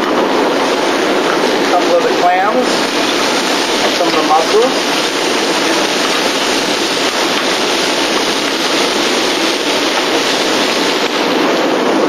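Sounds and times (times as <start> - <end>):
seafood sizzling in a pan: 0.6 - 11.5.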